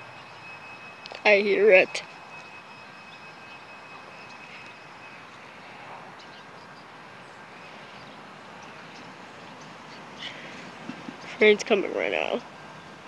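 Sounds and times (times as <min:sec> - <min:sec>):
trolley train rumble: 0:00.0 - 0:13.0.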